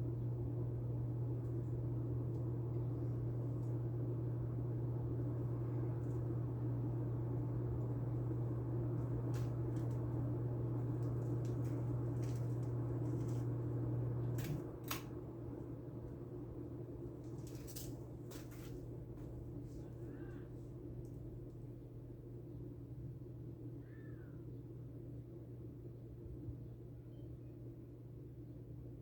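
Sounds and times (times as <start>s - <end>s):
ceiling fan motor hum: 0.0s - 29.0s.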